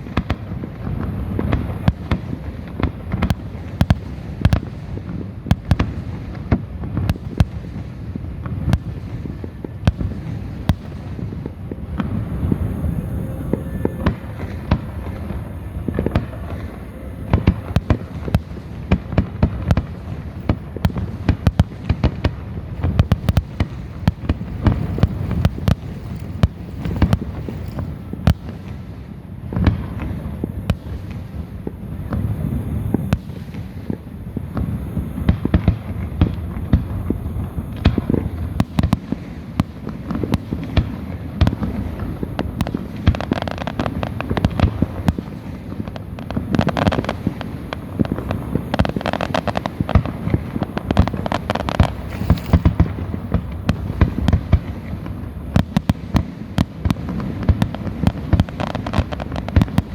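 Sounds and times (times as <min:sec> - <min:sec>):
crackling firework bursts: 0:00.0 - 0:59.9
firework bangs and booms: 0:00.0 - 0:59.9.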